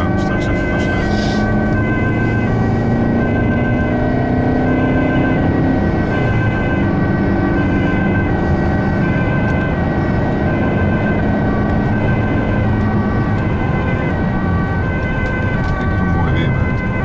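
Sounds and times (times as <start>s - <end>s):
ambulance siren: 0.0s - 17.0s
engine and road noise: 0.0s - 17.0s.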